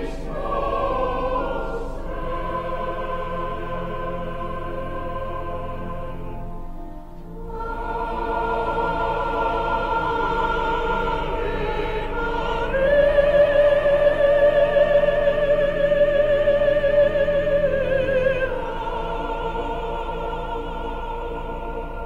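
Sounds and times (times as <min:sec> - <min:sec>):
operatic singing with vibrato: 0:00.0 - 0:06.5, 0:07.4 - 0:22.0
sustained accompaniment: 0:00.0 - 0:22.0.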